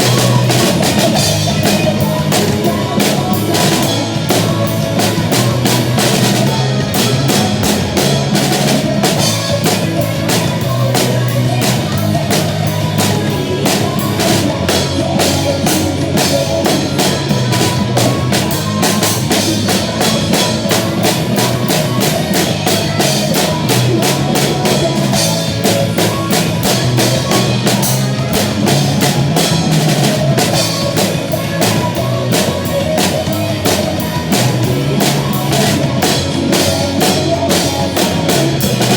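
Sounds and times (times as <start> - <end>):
bass line: 0.0 - 38.9
rock drum kit beat: 0.0 - 38.9.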